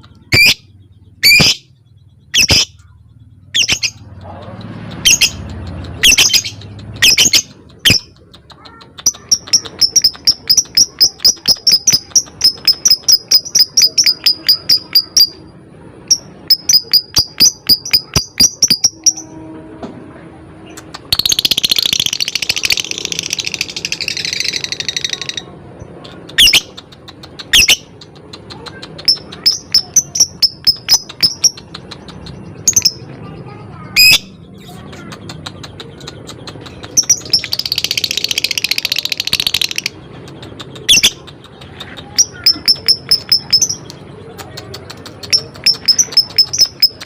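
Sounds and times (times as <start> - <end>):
lovebird chirping: 0.0 - 19.4, 20.6 - 47.0.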